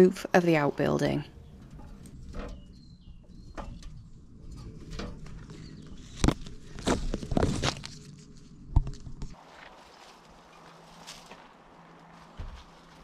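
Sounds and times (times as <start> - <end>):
crunching scrapes: 1.4 - 13.0.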